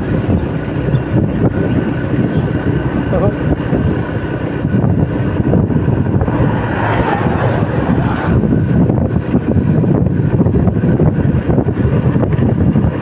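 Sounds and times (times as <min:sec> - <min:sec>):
motorcycle engine and road rumble: 0:00.0 - 0:13.0
wind buffeting microphone: 0:00.0 - 0:13.0.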